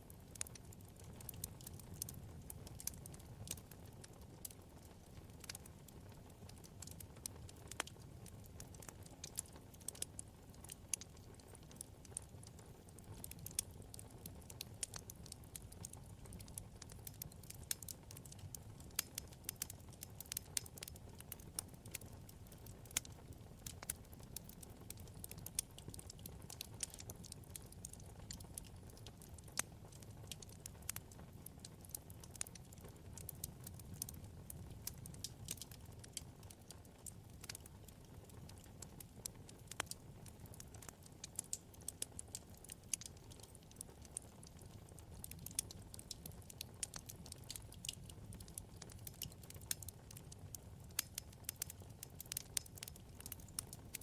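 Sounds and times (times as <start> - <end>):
low rumble of flame: 0.0 - 54.0
wood fire crackling: 0.0 - 54.0.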